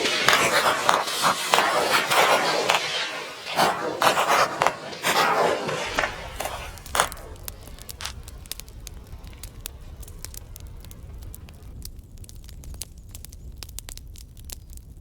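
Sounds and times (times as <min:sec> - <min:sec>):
firecrackers banging and crackling: 0:00.0 - 0:13.5.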